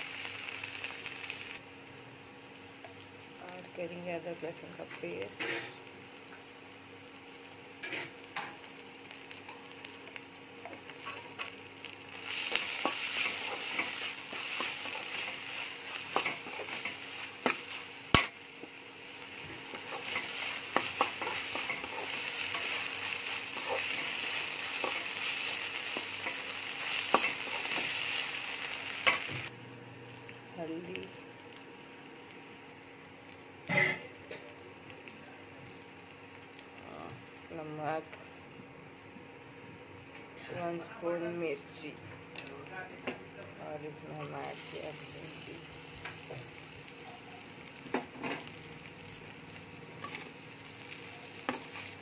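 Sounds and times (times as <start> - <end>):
onions frying in oil: 0.0 - 41.8, 42.4 - 52.0.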